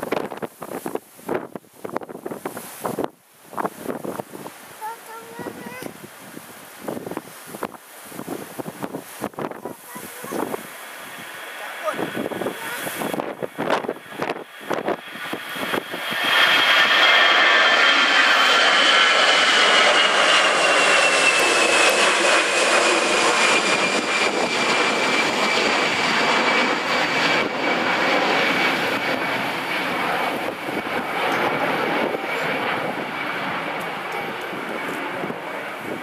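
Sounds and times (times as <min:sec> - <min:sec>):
jet engines at takeoff: 0:00.0 - 0:36.0.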